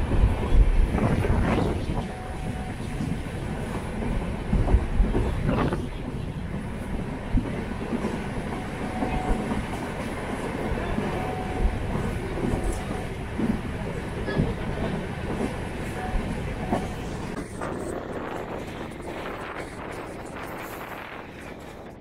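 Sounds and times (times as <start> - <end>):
train wheels rumbling and rattling: 0.0 - 22.0.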